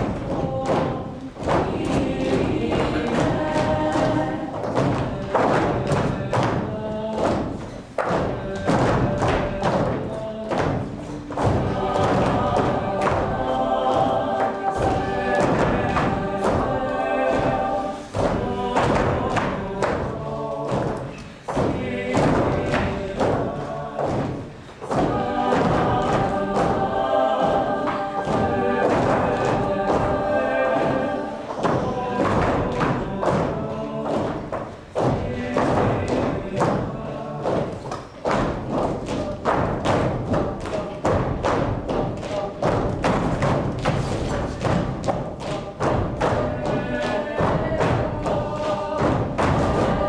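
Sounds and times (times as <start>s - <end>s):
repeated electronic thuds: 0.0s - 50.0s.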